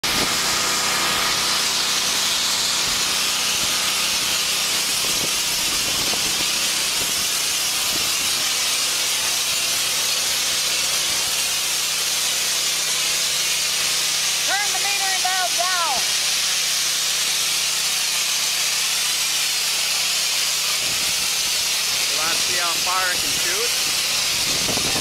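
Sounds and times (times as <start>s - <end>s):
high-pressure water jet hissing: 0.0s - 25.0s.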